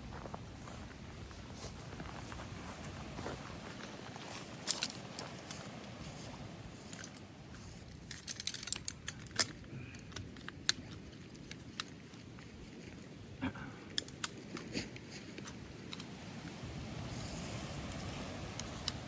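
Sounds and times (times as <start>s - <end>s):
camp gear clicking and clinking: 0.0s - 19.0s.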